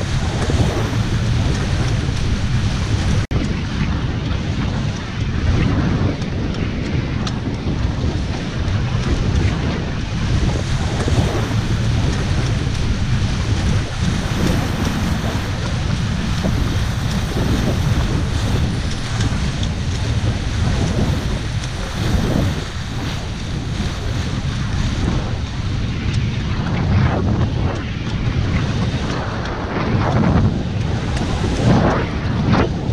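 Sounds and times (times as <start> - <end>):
water rushing off hulls: 0.0 - 32.9
wind buffeting microphone: 0.0 - 32.9.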